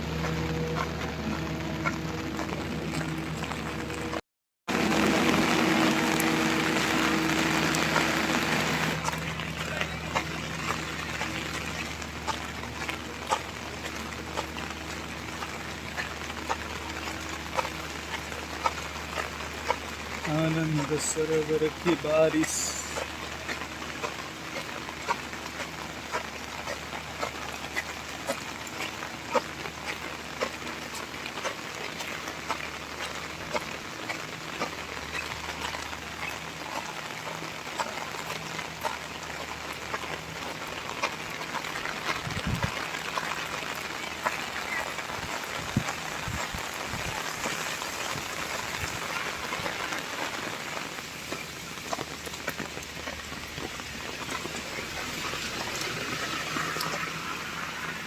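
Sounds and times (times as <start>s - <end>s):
raindrops ticking on surfaces: 0.0s - 58.0s
steady rain: 0.0s - 58.0s.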